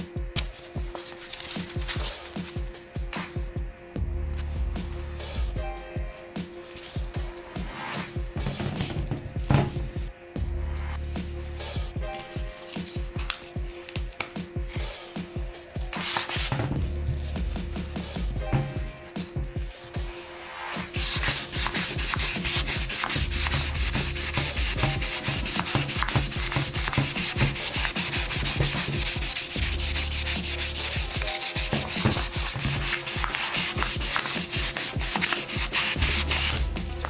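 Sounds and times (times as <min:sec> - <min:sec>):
sandpaper rubbing on vinyl: 0:00.4 - 0:02.6, 0:06.6 - 0:09.8, 0:11.2 - 0:18.8, 0:19.7 - 0:37.0.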